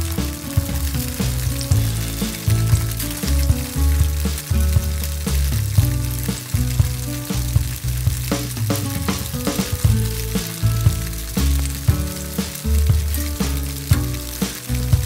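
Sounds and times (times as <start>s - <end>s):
background music with bass: 0.0s - 15.0s
tofu sizzling in oil: 0.0s - 15.0s.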